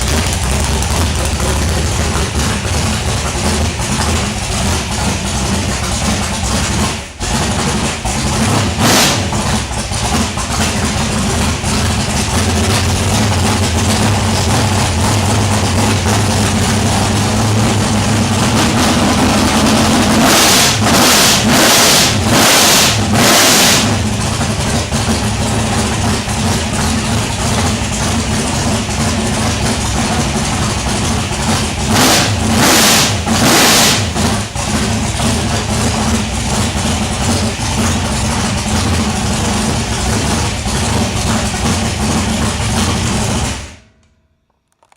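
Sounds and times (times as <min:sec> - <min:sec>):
car engine idling and revving: 0:00.0 - 0:43.8.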